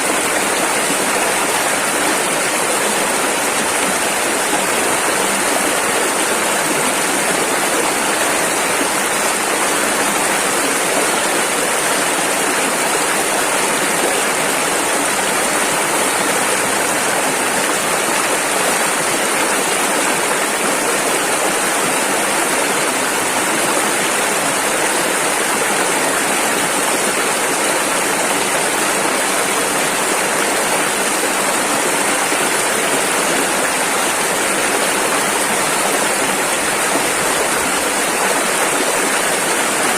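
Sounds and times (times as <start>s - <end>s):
rushing river rapids: 0.0s - 39.9s.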